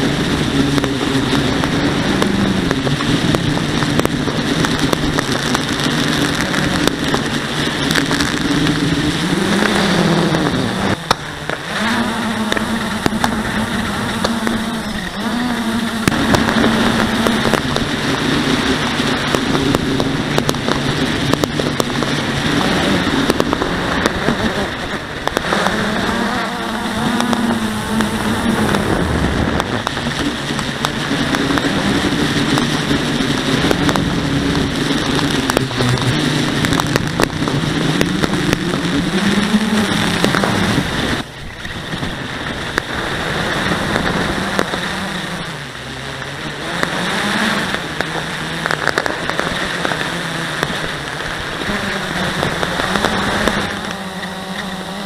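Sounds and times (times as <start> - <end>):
faint fireworks cracks: 0.0 - 54.7
quadcopter motors droning: 0.0 - 55.0
wind rushing on microphone: 0.0 - 55.0.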